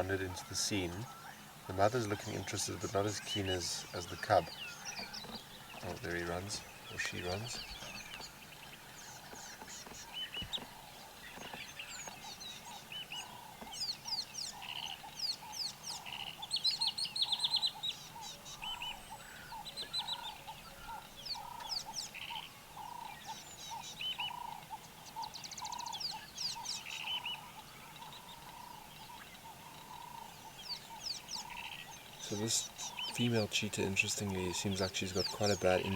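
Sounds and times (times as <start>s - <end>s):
birds chirping and trilling: 0.0s - 35.9s.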